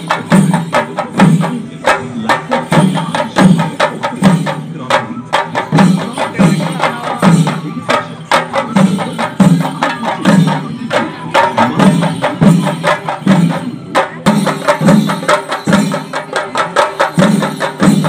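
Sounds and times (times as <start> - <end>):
drums beaten in fast rhythm: 0.0 - 18.0.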